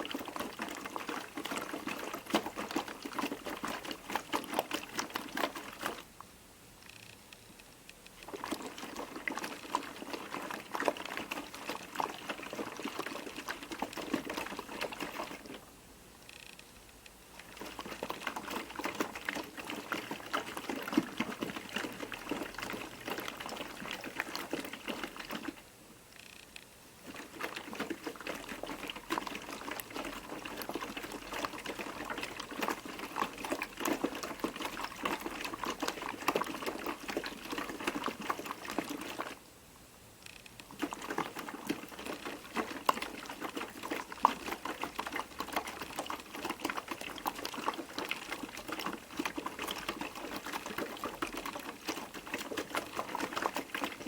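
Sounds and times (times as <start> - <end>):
washing machine churning and sloshing: 0.0 - 6.1, 8.2 - 15.8, 17.3 - 25.8, 26.9 - 39.4, 40.6 - 54.0.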